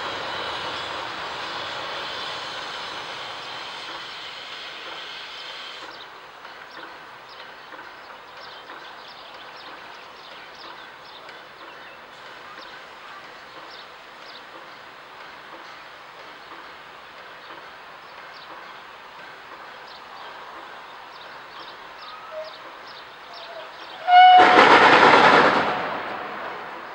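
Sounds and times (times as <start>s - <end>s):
steam hiss: 0.0s - 26.9s
steam train rumbling: 0.0s - 26.9s.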